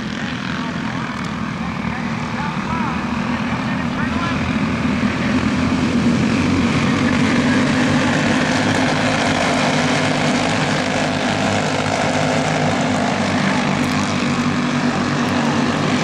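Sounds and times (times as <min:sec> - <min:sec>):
racing kart engines buzzing: 0:00.0 - 0:16.0.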